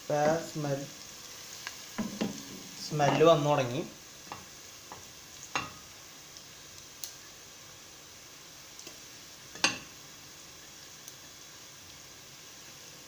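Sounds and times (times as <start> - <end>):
spices frying in oil: 0.0 - 13.0.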